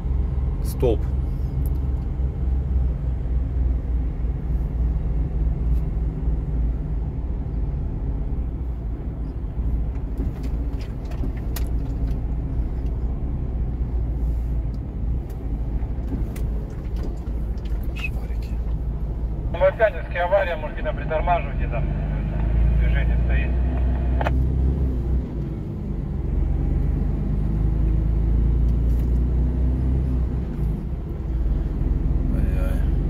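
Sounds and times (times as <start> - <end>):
road noise: 0.0 - 33.0
truck engine drone: 0.0 - 33.0.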